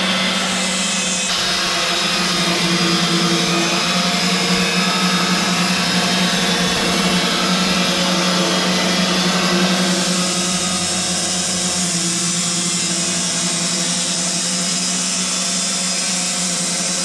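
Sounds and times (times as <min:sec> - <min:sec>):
high machine whir: 0:00.0 - 0:17.0
motor hum: 0:00.0 - 0:17.0.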